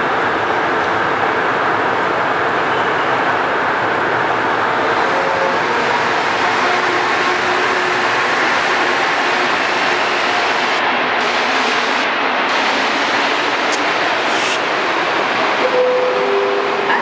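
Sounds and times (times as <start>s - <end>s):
metro train rumbling: 0.0s - 17.0s.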